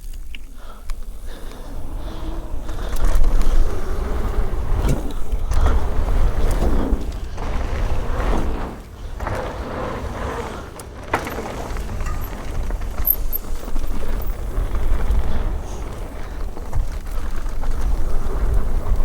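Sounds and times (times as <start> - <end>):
mountain bike rattling on rough trail: 0.0 - 19.0
wind buffeting microphone: 0.6 - 19.0.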